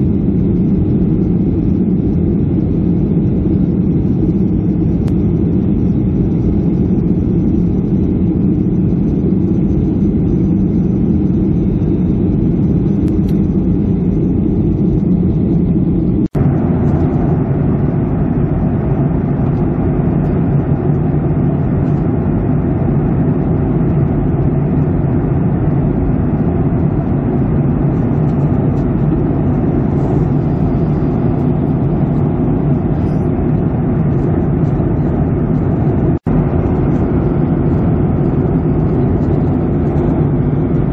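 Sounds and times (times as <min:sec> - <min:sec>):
jet engine drone: 0:00.0 - 0:40.9.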